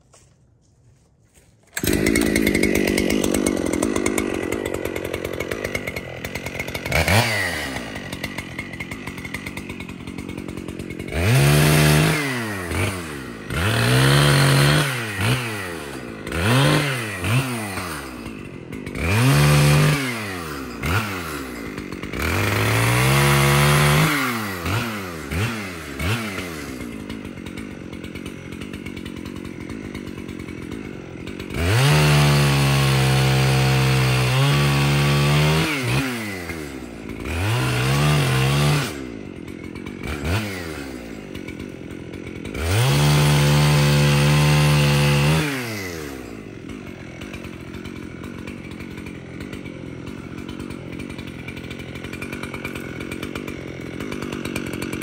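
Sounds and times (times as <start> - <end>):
chainsaw revving and idling: 1.4 - 55.0.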